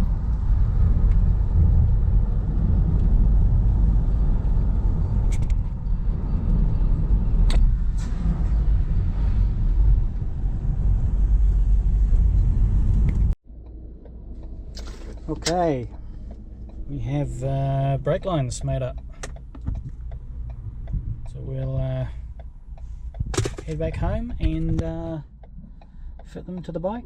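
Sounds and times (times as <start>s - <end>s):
van engine and road rumble: 0.0s - 27.0s.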